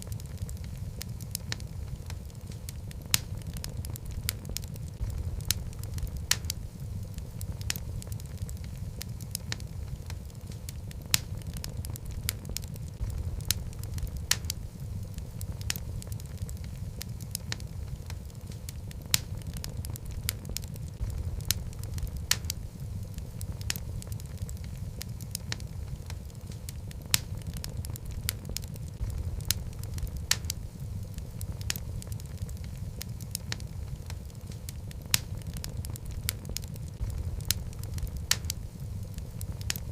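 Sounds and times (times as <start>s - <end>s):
flames rumbling: 0.0s - 39.9s
logs crackling and popping: 0.0s - 39.9s.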